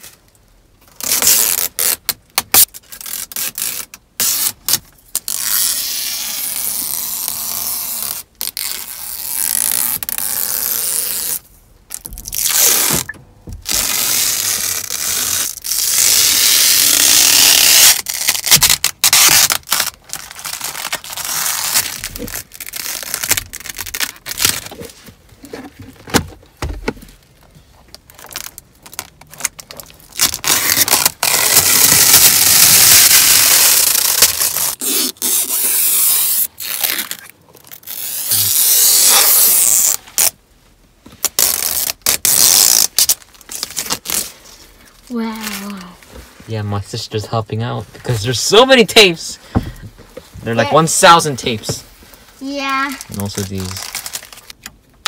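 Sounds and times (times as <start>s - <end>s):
tape tearing off plastic: 0.8s - 26.4s, 27.9s - 40.4s, 41.1s - 46.0s, 52.5s - 55.0s.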